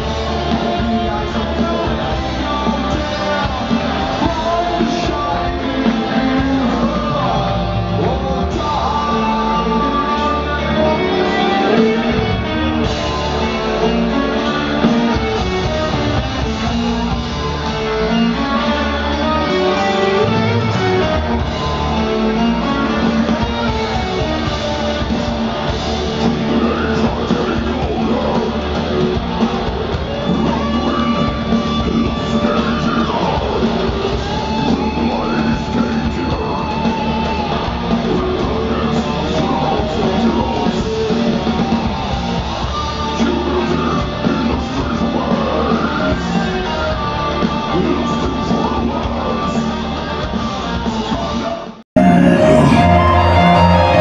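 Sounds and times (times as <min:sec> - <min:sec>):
heavy metal band playing: 0:00.0 - 0:51.4, 0:52.0 - 0:54.0.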